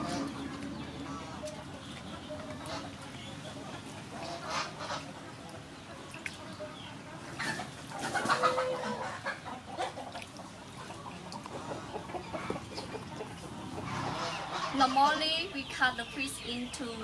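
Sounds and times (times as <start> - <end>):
water sloshing in a metal bowl: 0.0 - 15.2
birds calling: 0.0 - 17.0.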